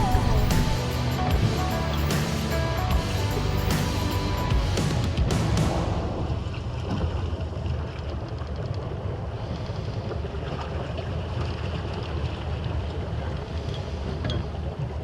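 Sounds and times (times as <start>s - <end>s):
boat engine rumble: 0.0s - 15.0s
water around hull: 0.0s - 15.0s.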